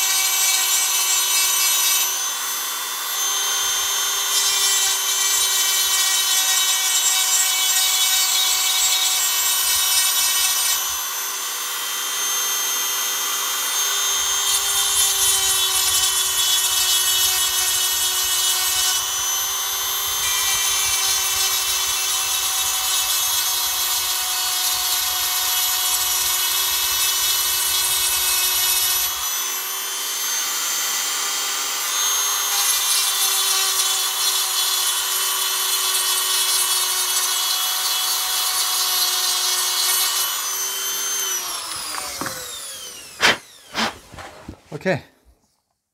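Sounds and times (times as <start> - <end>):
power tool grinding plastic: 0.0 - 45.0.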